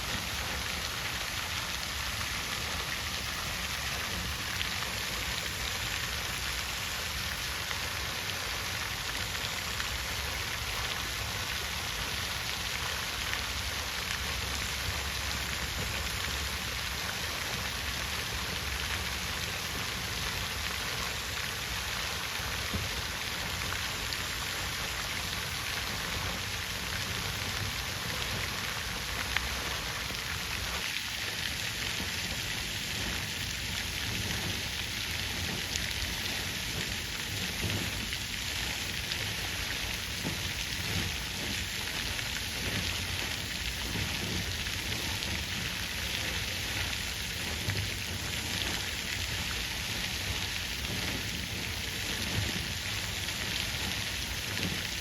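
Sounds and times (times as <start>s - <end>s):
fountain water splashing into basin: 0.0s - 55.0s.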